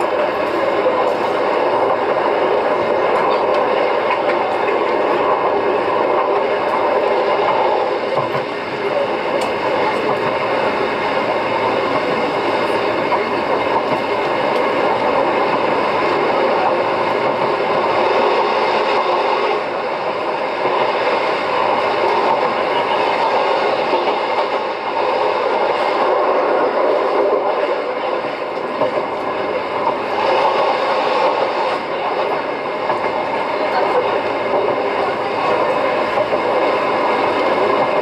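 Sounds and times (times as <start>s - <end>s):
electric train wheels and motors: 0.0s - 38.0s.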